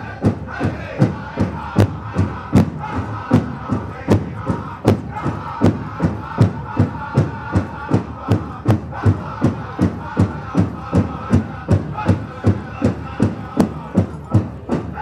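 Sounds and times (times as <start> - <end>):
bass drum steady beat: 0.0 - 15.0
group of singers: 0.0 - 15.0.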